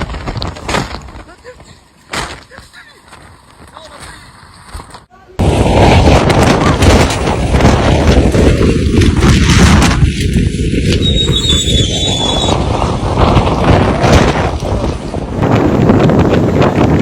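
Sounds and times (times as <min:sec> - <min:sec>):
storm wind on microphone: 0:00.0 - 0:17.0.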